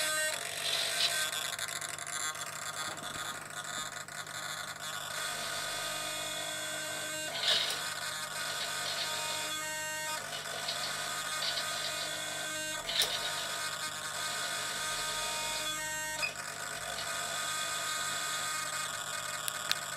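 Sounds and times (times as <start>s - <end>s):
servo whining: 0.0s - 19.7s.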